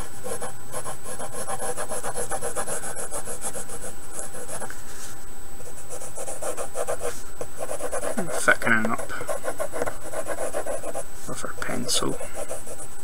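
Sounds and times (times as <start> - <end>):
pencil scratching on paper: 0.0 - 4.8, 5.7 - 11.0, 11.6 - 13.0.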